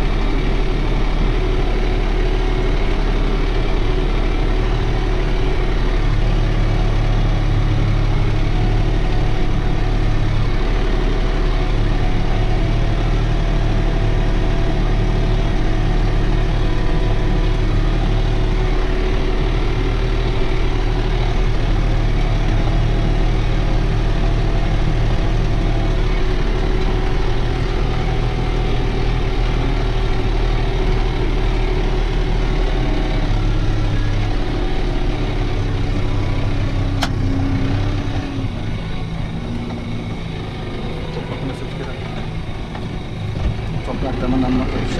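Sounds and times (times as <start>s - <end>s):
tractor diesel engine droning: 0.0s - 44.9s.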